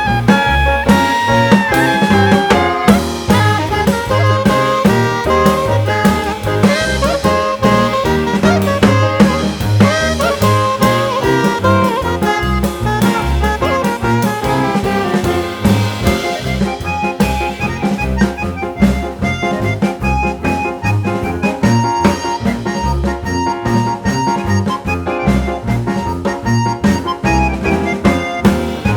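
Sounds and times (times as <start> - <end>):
jazzy saxophone or brass: 0.0 - 28.9
steady drum beat: 0.0 - 28.9.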